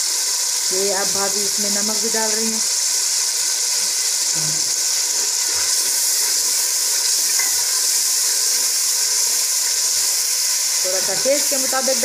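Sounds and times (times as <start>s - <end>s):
masala sizzling in a pot: 0.0s - 12.0s.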